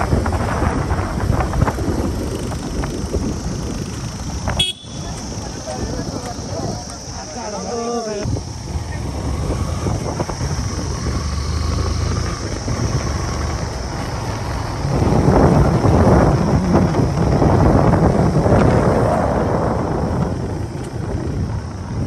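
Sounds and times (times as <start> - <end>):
motorcycle engine running: 0.0 - 7.4, 8.3 - 22.0
wind buffeting microphone: 0.0 - 22.0.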